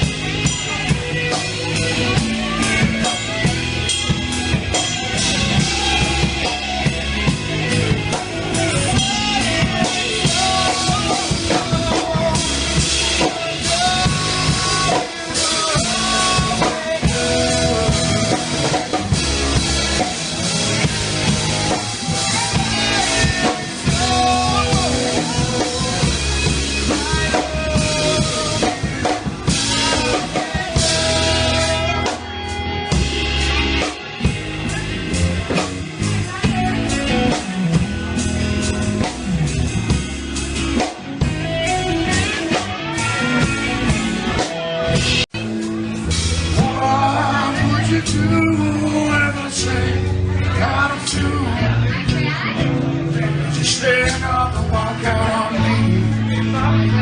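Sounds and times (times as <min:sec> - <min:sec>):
rock drum kit beat: 0:00.0 - 0:57.0.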